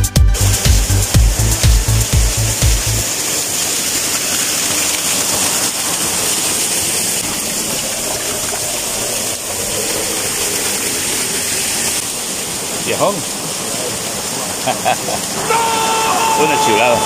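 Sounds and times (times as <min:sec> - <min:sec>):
waterfall over rocks: 0:00.4 - 0:17.0.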